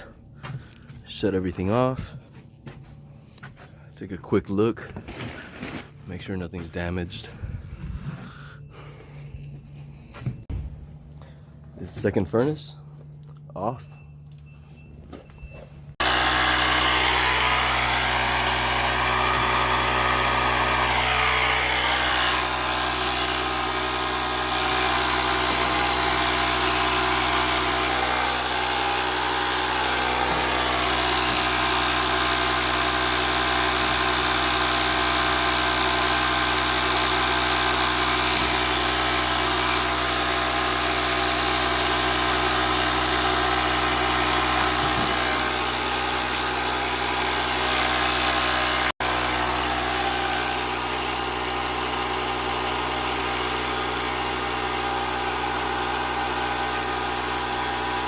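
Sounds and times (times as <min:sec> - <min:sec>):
air compressor humming: 0:04.8 - 0:13.5, 0:14.1 - 0:58.0.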